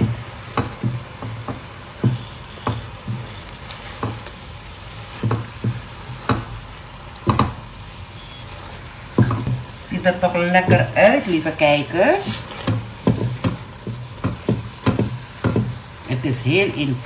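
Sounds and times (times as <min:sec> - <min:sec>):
spatula knocking and scraping pot: 0:00.0 - 0:04.4, 0:05.0 - 0:06.6, 0:08.2 - 0:17.0
food sizzling in butter: 0:00.0 - 0:17.0.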